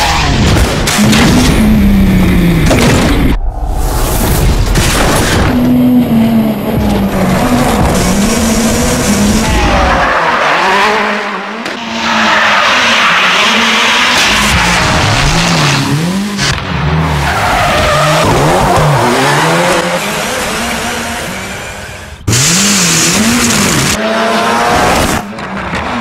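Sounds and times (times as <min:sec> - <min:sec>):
tyres skidding and squealing: 0:03.2 - 0:26.0
rally car engine revving: 0:04.8 - 0:26.0.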